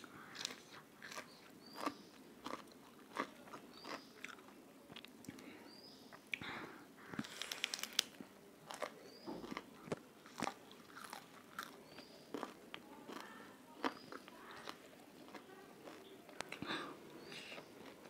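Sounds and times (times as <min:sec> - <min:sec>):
crunchy chewing of a leaf: 0:00.0 - 0:05.4, 0:07.2 - 0:18.0.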